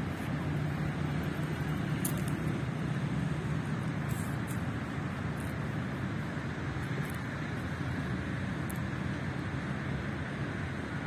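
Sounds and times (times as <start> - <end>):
distant road traffic rumble: 0.0 - 11.0.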